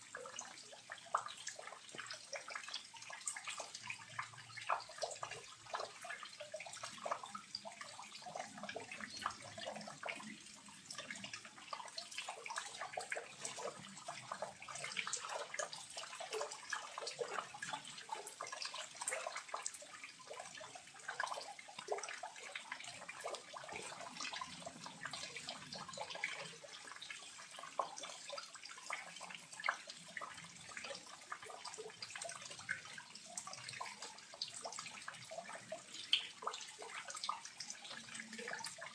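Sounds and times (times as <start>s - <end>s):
small waterfall splashing over rock: 0.0s - 38.9s.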